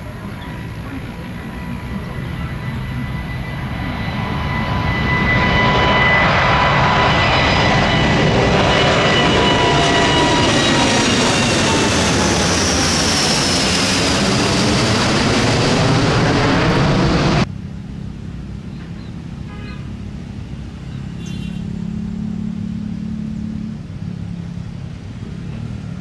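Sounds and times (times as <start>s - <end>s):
jet airliner roaring overhead: 0.0s - 26.0s.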